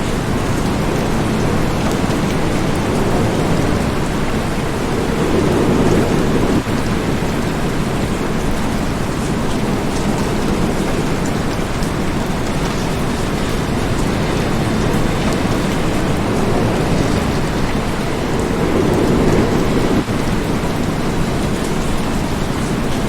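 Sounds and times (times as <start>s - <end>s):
heavy rain: 0.0s - 23.0s
thunder rumble: 0.0s - 23.0s.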